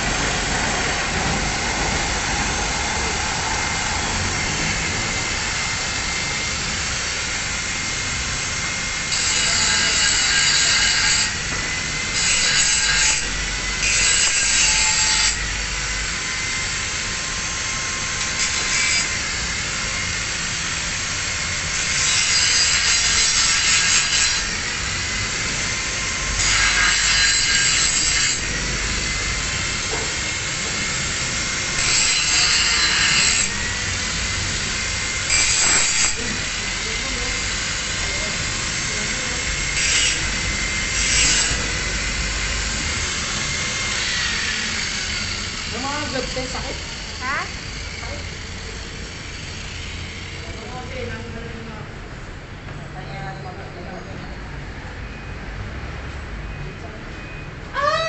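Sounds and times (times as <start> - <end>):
angle grinder grinding metal: 0.0 - 51.4.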